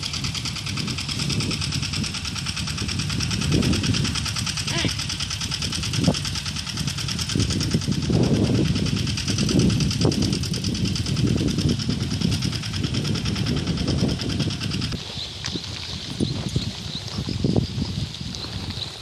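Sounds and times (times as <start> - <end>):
small engine clattering: 0.0 - 19.0.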